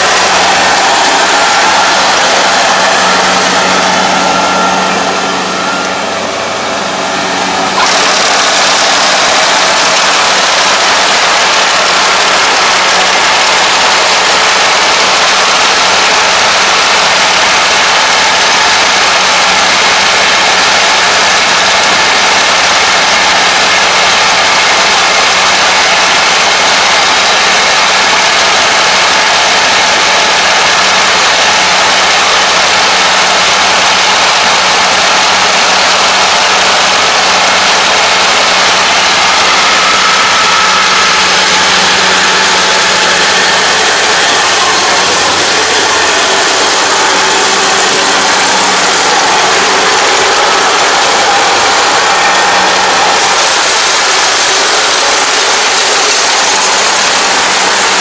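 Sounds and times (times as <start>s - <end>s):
diesel engine hum: 0.0s - 58.0s
threshing machinery clatter: 0.0s - 58.0s.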